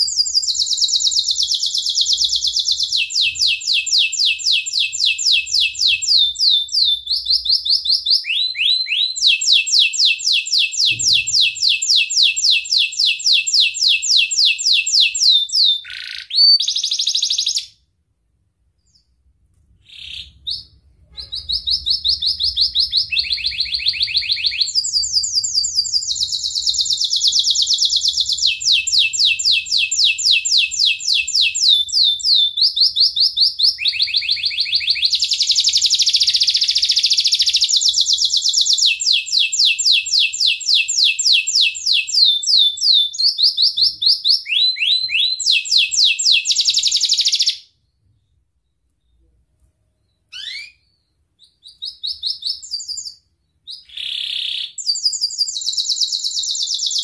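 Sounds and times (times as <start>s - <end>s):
canary singing high trills: 0.0s - 17.8s, 19.8s - 47.8s, 50.2s - 57.0s.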